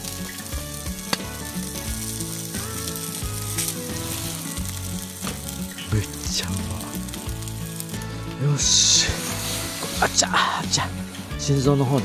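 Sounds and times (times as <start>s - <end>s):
fat dripping onto hot coals: 0.0s - 12.0s
skewers sizzling on grill: 0.0s - 12.0s.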